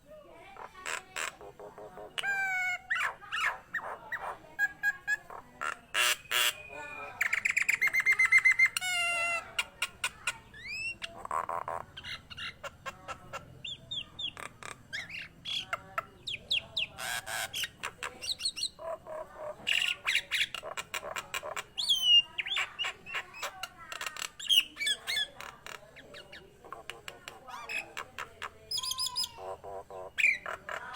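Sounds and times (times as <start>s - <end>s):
myna bird singing: 0.4s - 30.9s.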